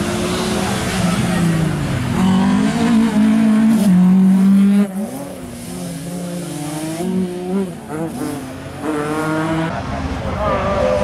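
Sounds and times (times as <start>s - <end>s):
car engine revving hard: 0.0s - 9.8s.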